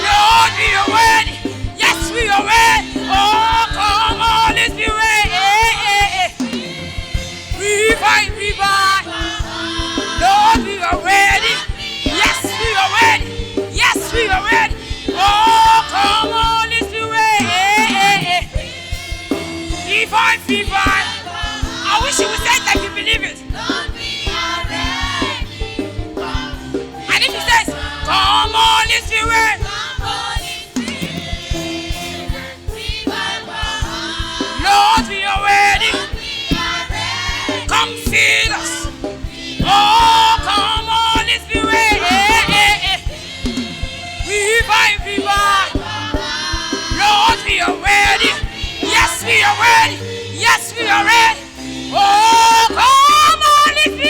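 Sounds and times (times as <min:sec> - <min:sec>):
bass: 0:00.0 - 0:54.0
drum beat: 0:00.0 - 0:54.0
gospel choir singing: 0:00.0 - 0:54.0.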